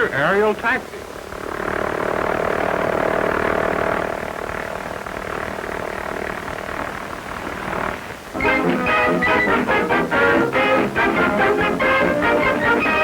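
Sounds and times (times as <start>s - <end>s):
old soundtrack hiss: 0.0s - 13.0s
propeller aircraft engine droning: 0.8s - 13.0s.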